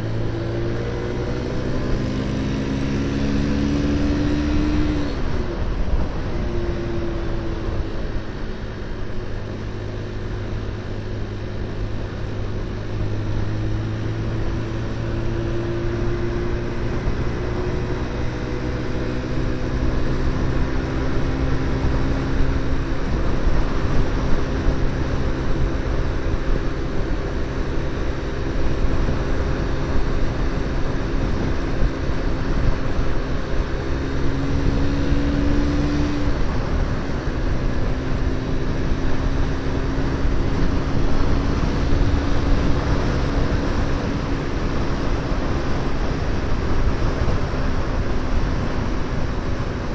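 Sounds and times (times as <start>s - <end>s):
motorcycle engine running: 0.0s - 49.9s
wind and road noise: 0.0s - 49.9s.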